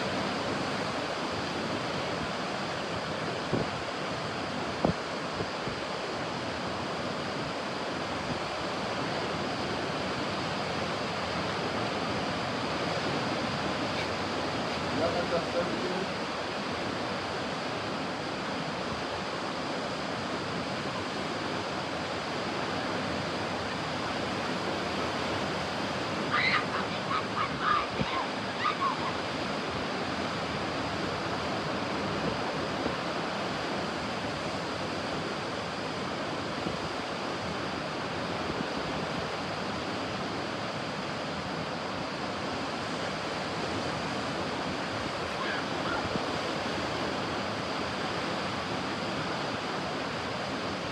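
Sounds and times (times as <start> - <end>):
ocean waves on beach: 0.0 - 50.9.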